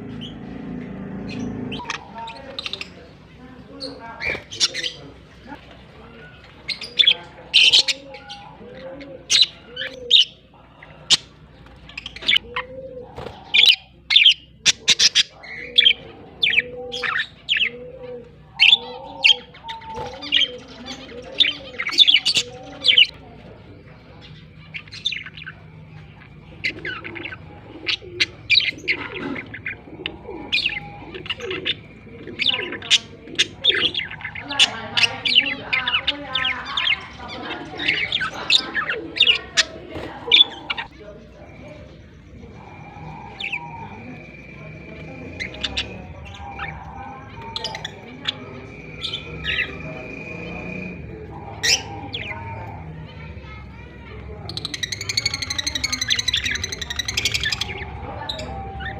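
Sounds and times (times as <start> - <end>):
budgerigars chirping: 0.0 - 58.9.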